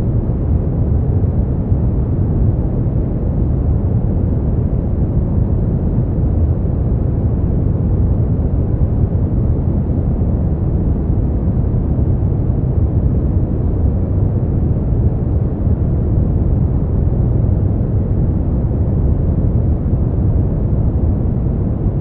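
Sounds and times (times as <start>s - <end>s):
brown noise rumble: 0.0s - 22.0s.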